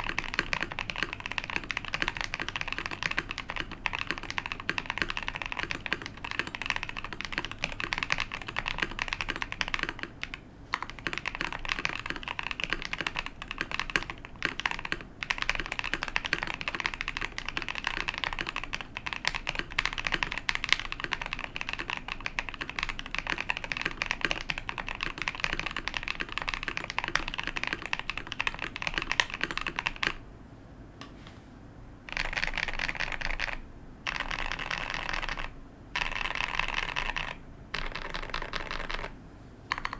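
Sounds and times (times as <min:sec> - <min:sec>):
mechanical keyboard typing: 0:00.0 - 0:30.2, 0:32.1 - 0:39.9.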